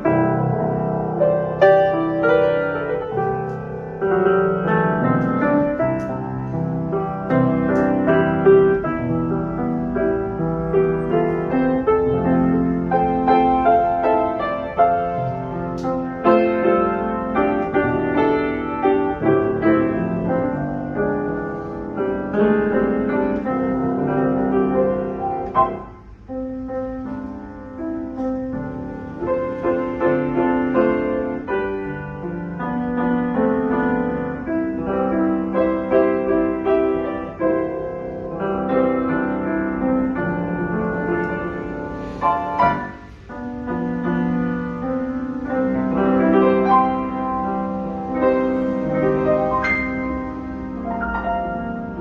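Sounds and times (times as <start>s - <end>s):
piano chords and melody: 0.0s - 52.0s.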